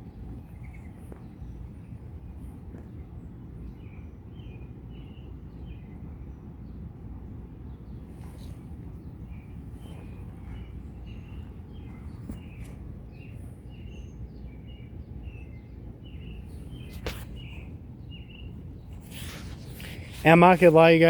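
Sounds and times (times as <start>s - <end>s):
small birds chirping: 0.0s - 6.9s, 7.6s - 21.0s
low outdoor rumble: 0.0s - 21.0s.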